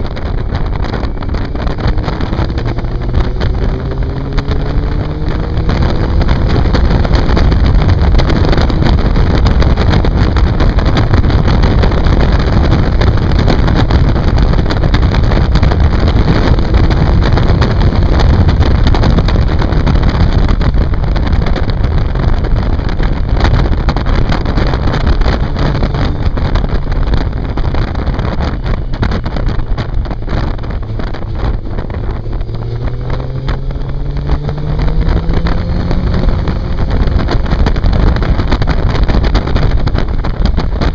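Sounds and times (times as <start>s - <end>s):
motorcycle engine: 0.0s - 40.9s
wind buffeting on microphone: 0.0s - 40.9s.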